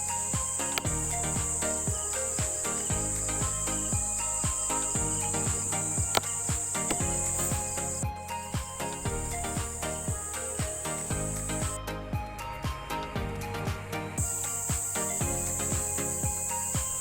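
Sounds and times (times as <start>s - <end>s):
cricket trill: 0.0s - 11.8s, 14.2s - 17.0s
music with low drum beat: 0.0s - 17.0s.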